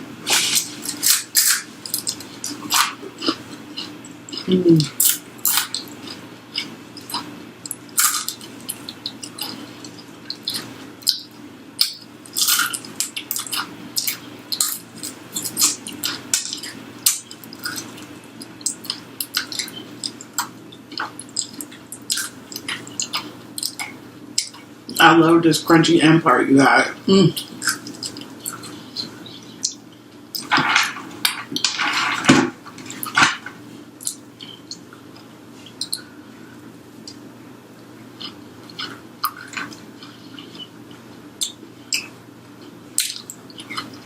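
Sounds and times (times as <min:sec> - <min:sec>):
chewing crispy food: 0:00.2 - 0:25.0, 0:27.3 - 0:44.0.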